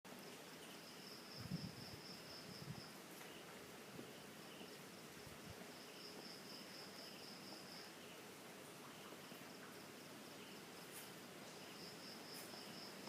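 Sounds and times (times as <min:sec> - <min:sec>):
insects trilling: 0:00.5 - 0:13.0.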